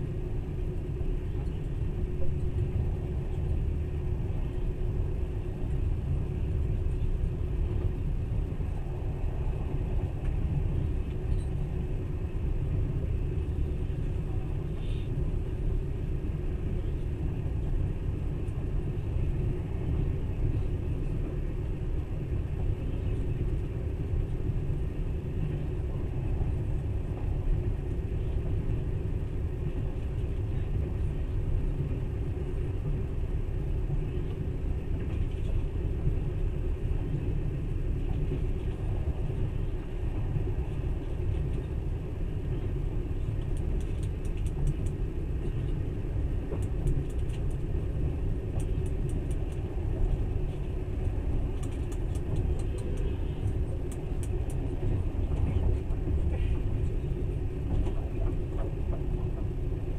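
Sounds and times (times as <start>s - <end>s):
train rumbling from inside: 0.0s - 59.9s.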